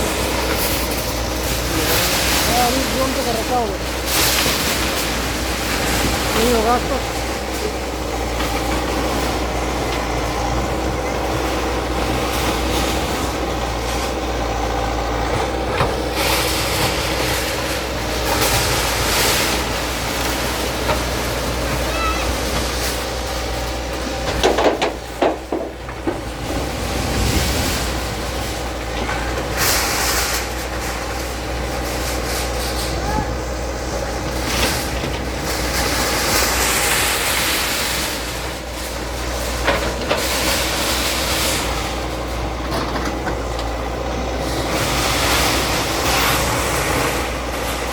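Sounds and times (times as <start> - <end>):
bulldozer diesel engine running: 0.0 - 47.9
earthmoving machine rumbling and clattering: 0.0 - 47.9.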